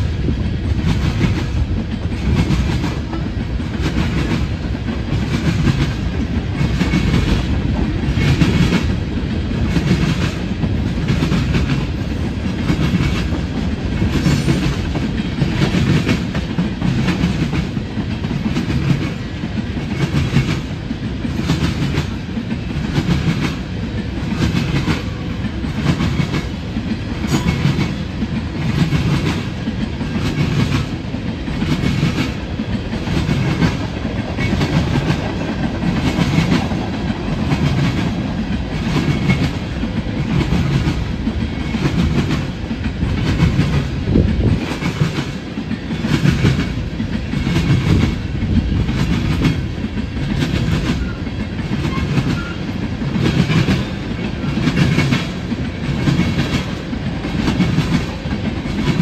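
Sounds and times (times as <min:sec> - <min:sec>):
freight train rumbling past: 0:00.0 - 0:59.0
wheels clacking on rails: 0:00.0 - 0:59.0.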